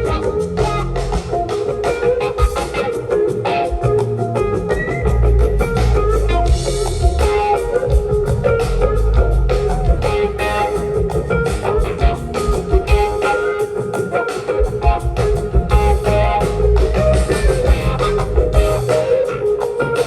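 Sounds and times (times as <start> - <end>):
bass guitar: 0.0 - 20.0
drum kit beat: 0.0 - 20.0
electric guitar: 0.0 - 20.0.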